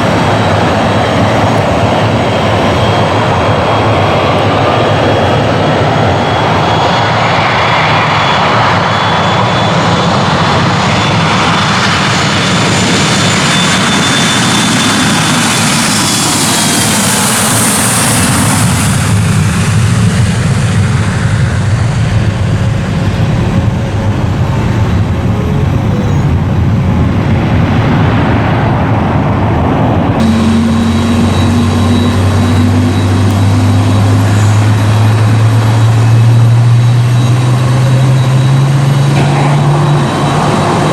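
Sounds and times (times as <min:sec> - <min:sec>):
airliner engines roaring: 0:00.0 - 0:40.9.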